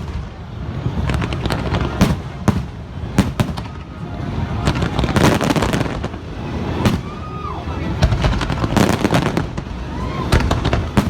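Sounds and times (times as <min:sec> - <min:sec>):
continuous low rumble: 0:00.0 - 0:11.0
fireworks bangs and crackles: 0:00.0 - 0:11.0.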